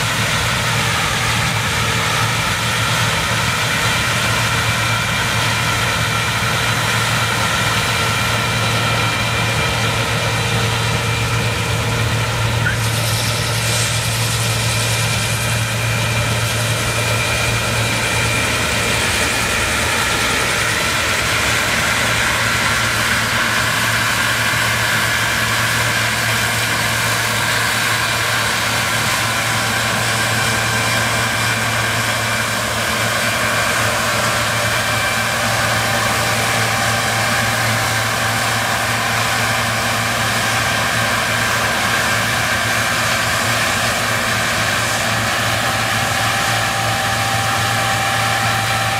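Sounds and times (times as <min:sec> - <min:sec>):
low engine drone: 0:00.0 - 0:48.9
machinery whine: 0:00.0 - 0:48.9.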